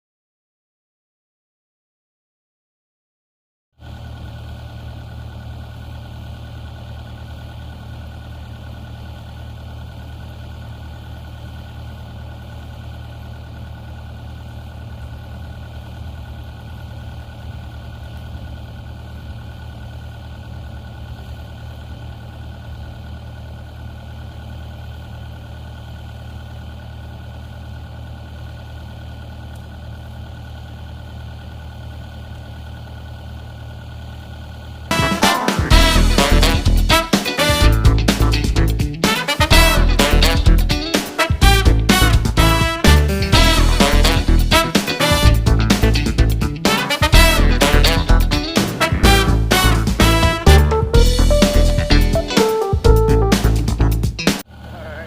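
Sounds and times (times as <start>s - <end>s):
diesel engine running steadily: 3.8s - 55.0s.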